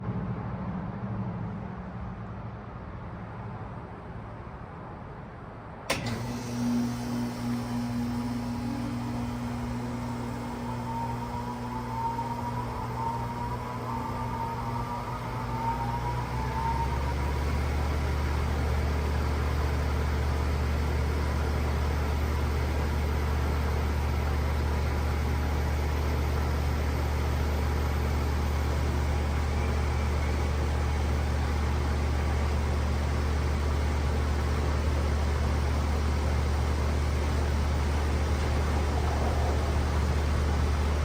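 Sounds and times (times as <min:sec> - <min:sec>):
heat pump humming: 0:05.9 - 0:41.0
rising whine: 0:05.9 - 0:41.0.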